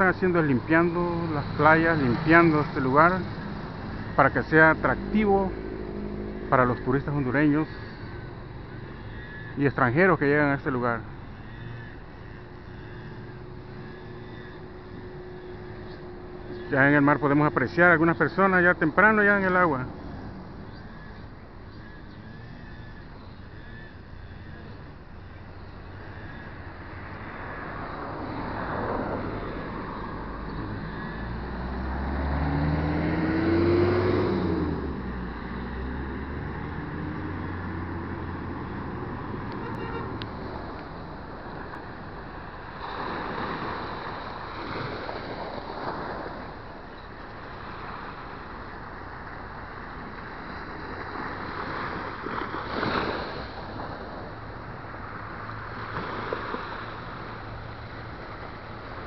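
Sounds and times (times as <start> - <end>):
outdoor background noise: 0.0 - 59.0
vehicle passing by: 0.0 - 59.0.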